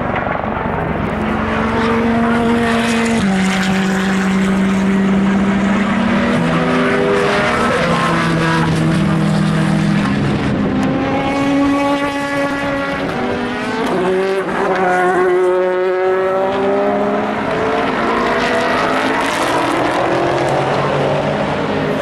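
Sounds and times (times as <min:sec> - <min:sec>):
race car engine accelerating: 0:00.0 - 0:22.0
race car passing by: 0:00.0 - 0:22.0.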